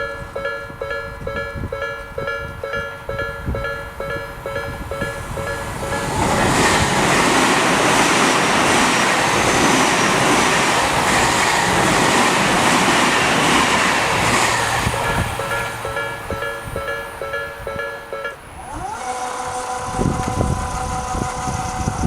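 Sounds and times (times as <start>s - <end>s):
train wheel and rail rush: 0.0s - 22.0s.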